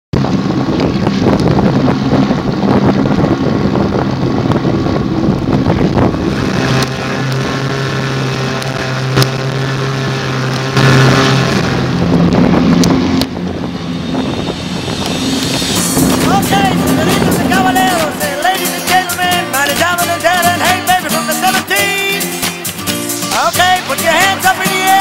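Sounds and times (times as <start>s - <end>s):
choppy water: 0.1s - 25.0s
motorboat engine hum: 0.1s - 25.0s
wind buffeting microphone: 0.2s - 20.5s.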